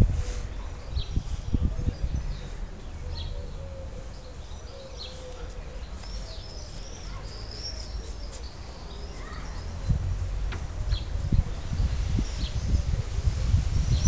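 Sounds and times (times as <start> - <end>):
small birds chirping: 0.3 - 14.0.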